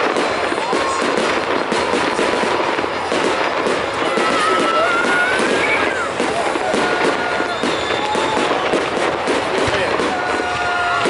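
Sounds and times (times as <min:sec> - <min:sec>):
fireworks crackling and banging: 0:00.0 - 0:11.0
rising firework whistle: 0:00.0 - 0:11.0.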